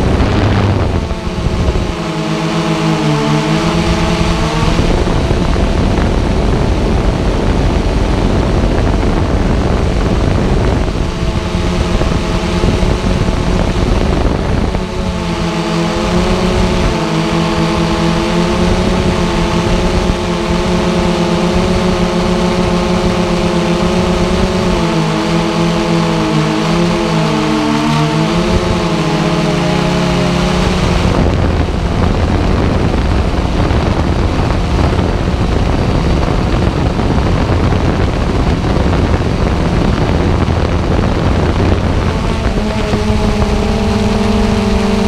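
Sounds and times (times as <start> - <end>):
drone propellers humming: 0.0 - 45.0
rough rushing noise: 0.0 - 45.0.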